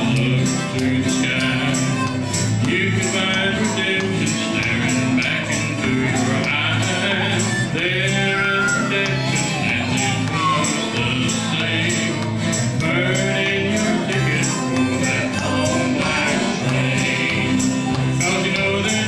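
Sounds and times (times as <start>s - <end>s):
harmonica melody: 0.0s - 19.0s
strummed acoustic guitars: 0.0s - 19.0s.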